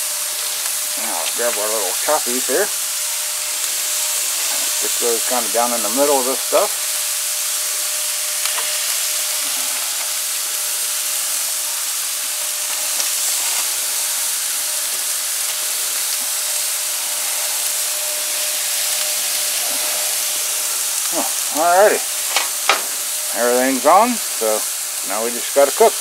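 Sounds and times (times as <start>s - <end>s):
meat sizzling on a grill: 0.0s - 26.0s.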